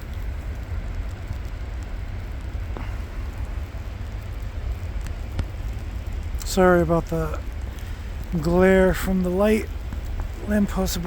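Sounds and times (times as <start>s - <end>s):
faint ticks: 0.0s - 11.0s
wind buffeting microphone: 0.0s - 11.0s.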